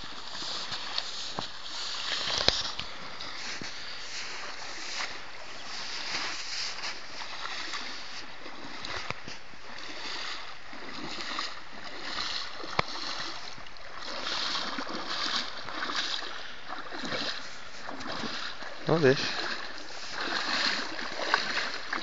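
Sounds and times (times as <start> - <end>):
floodwater rushing: 0.0 - 22.0
water splashing: 0.0 - 22.0.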